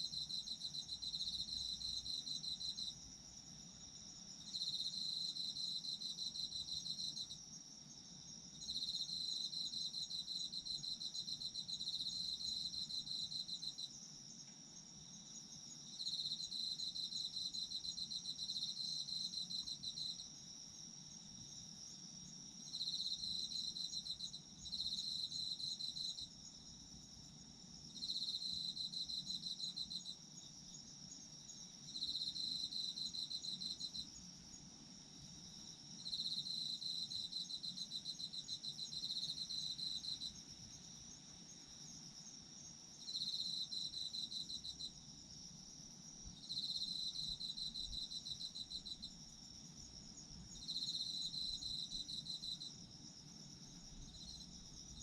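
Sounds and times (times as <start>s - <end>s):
cricket pulsed trill: 0.0s - 55.0s
high-pitched insect chorus: 0.0s - 55.0s.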